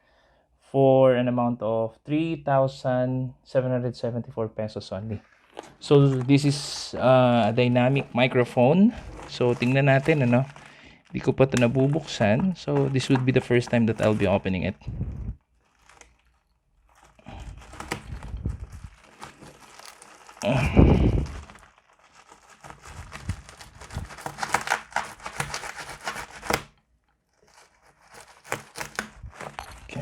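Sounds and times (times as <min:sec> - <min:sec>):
plastic packaging tearing and crinkling: 0:05.2 - 0:30.0.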